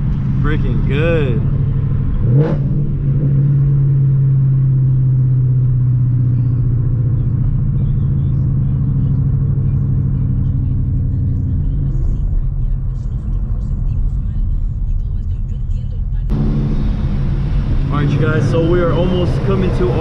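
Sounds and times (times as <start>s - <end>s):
car exhaust drone: 0.0s - 20.0s.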